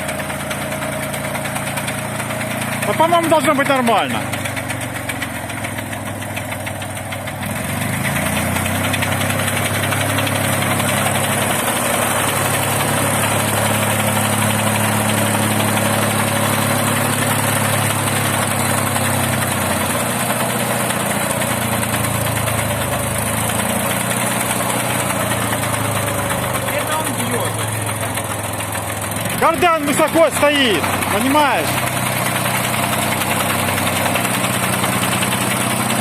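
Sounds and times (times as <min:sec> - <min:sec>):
drive shaft knocking: 0:00.0 - 0:36.0
tractor engine running: 0:00.0 - 0:36.0.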